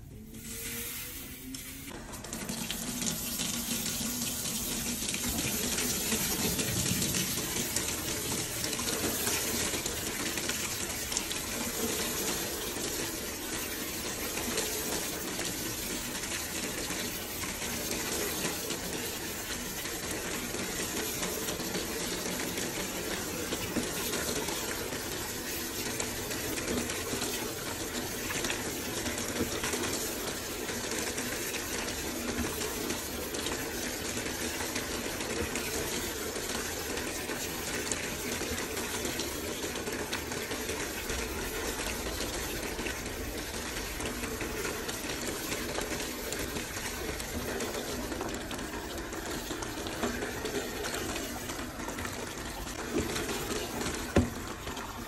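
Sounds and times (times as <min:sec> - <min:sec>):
water pouring and splashing: 0:00.0 - 0:55.0.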